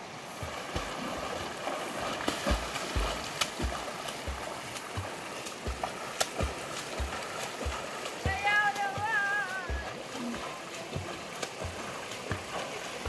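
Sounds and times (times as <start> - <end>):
swimmer's strokes splashing: 0.0 - 13.0.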